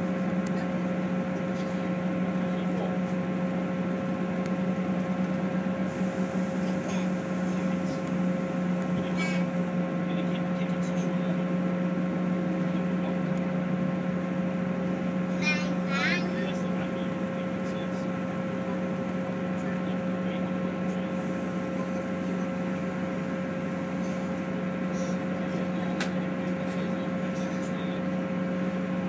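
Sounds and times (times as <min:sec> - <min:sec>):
train interior drone: 0:00.0 - 0:29.0
wheel and track rumble: 0:00.0 - 0:29.0.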